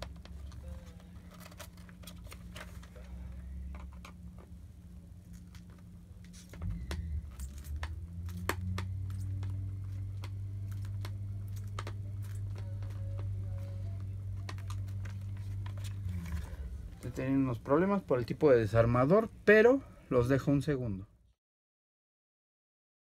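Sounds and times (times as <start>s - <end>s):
low steady hum: 0.0s - 21.4s.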